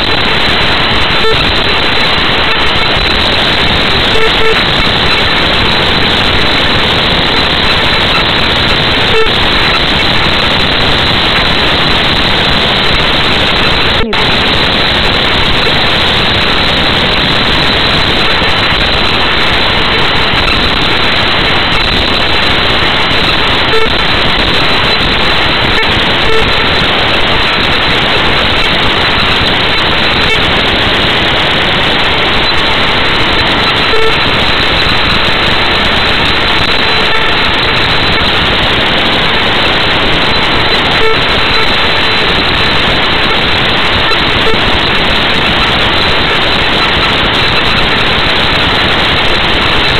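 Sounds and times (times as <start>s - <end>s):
loud static hiss: 0.0s - 49.9s.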